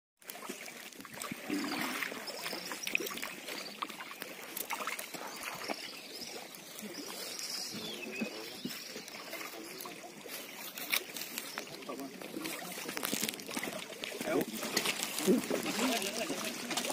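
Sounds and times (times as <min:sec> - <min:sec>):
water lapping against boat hull: 0:00.2 - 0:16.9.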